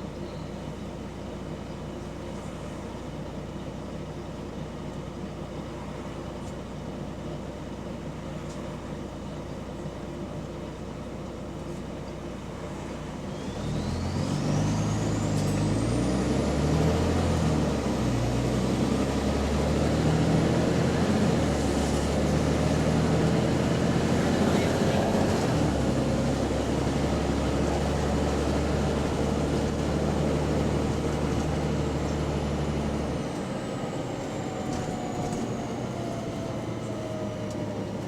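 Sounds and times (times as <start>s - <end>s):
bus engine idling and pulling away: 0.0s - 38.0s.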